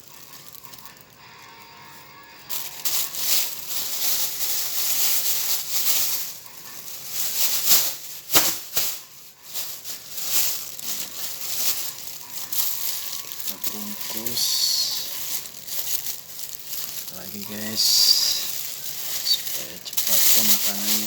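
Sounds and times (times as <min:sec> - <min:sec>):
plastic bag rustling and crinkling: 0:00.0 - 0:21.0.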